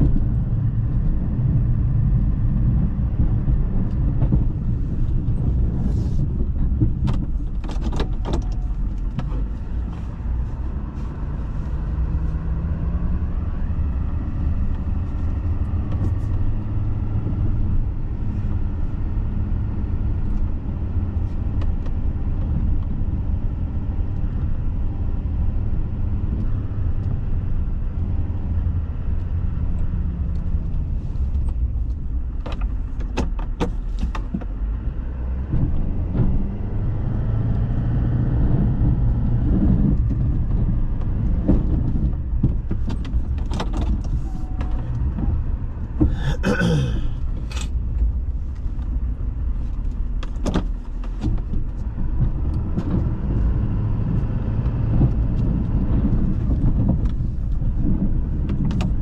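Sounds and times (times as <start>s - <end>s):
truck engine rumbling: 0.0s - 59.0s.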